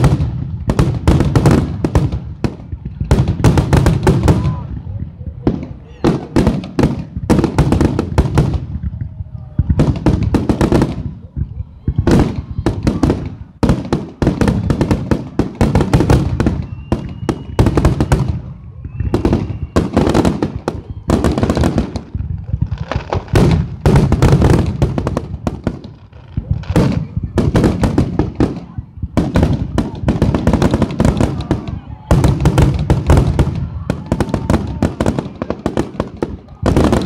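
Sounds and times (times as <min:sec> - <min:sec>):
fireworks booming and banging: 0:00.0 - 0:37.0.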